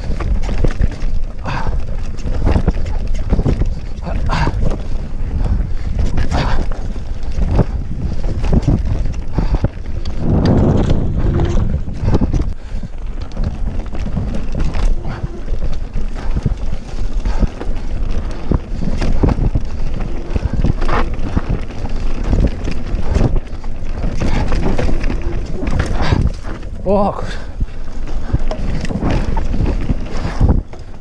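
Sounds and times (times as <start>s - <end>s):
bike knocks and rattles: 0.0s - 31.0s
bike tyre roar: 0.0s - 31.0s
wind on microphone: 0.0s - 31.0s.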